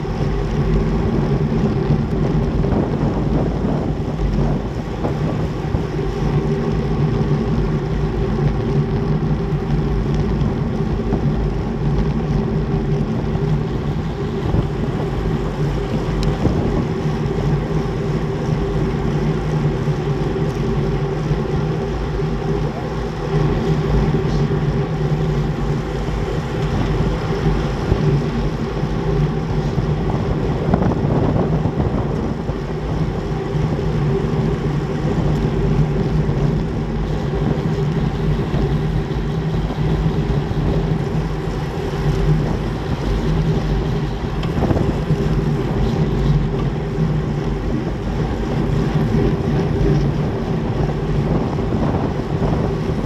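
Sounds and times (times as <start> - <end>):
road and tyre rumble: 0.0 - 53.0
steady low hum: 0.0 - 53.0
wind rushing over microphone: 0.0 - 53.0.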